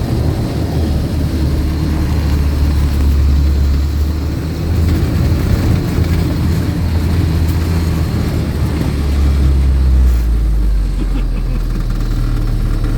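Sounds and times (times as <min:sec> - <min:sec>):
vehicle engine droning: 0:00.0 - 0:12.9.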